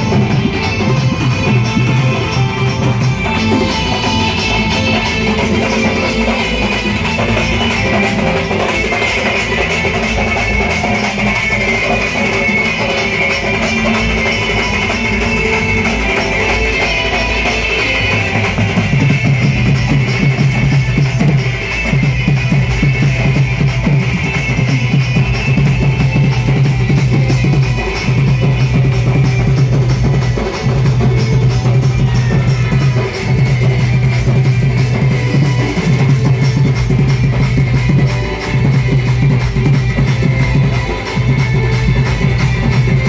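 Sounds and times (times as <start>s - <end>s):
drum kit playing: 0.0s - 43.0s.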